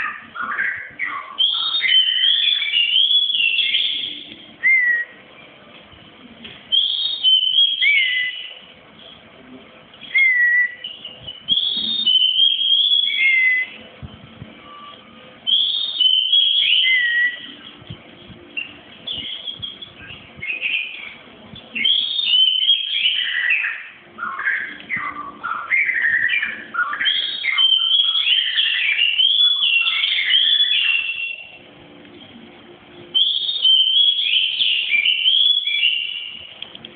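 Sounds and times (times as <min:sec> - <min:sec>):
shama singing whistled phrases: 0:00.0 - 0:05.2, 0:06.7 - 0:08.6, 0:10.0 - 0:13.8, 0:14.6 - 0:31.6, 0:33.1 - 0:36.5.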